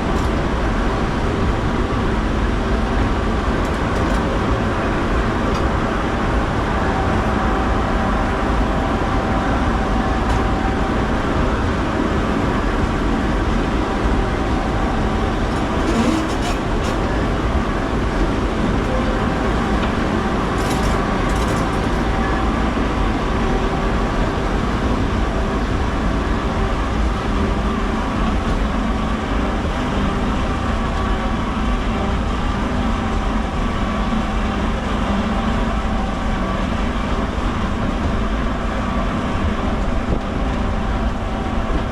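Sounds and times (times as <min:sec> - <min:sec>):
tram rumbling on rails: 0:00.0 - 0:41.9.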